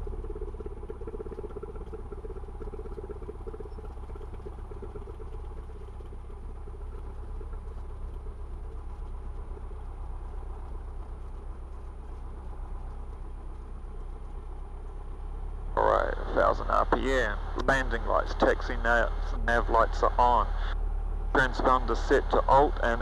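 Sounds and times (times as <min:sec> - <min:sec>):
aircraft engine running: 0:00.0 - 0:23.0.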